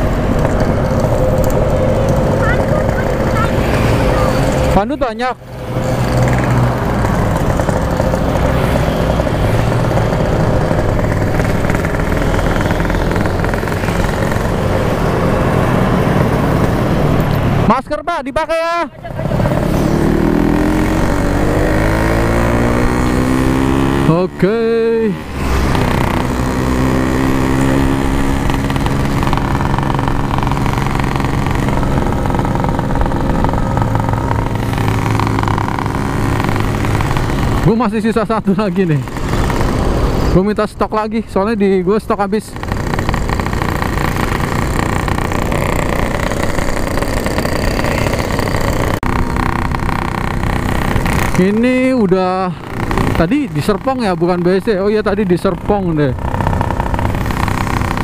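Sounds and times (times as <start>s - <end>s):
two-stroke motorcycle engine running: 0.0s - 58.0s
wind and road noise: 0.0s - 58.0s.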